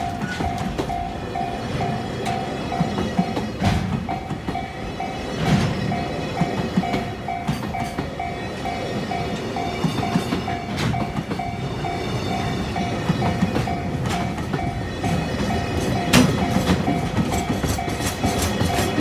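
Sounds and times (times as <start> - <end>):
crossing warning bell ringing: 0.0 - 19.0
train wheels clacking over rails: 0.0 - 19.0.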